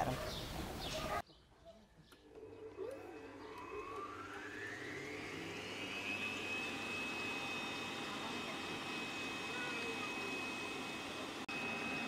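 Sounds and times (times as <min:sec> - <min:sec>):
electric mixer motor whine: 0:02.2 - 0:12.0.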